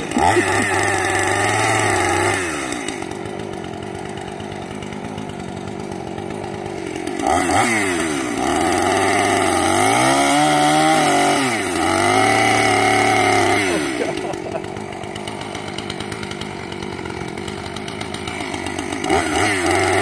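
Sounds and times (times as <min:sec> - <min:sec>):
chainsaw revving and cutting: 0:00.0 - 0:20.0.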